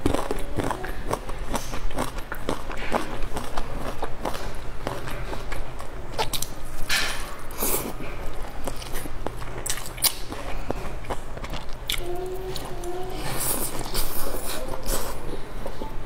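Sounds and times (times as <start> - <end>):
wet chewing: 0.0 - 6.8, 7.5 - 16.0.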